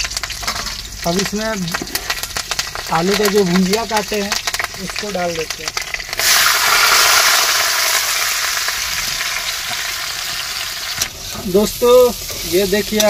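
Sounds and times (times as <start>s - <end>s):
potatoes sizzling in hot oil: 0.0s - 13.0s.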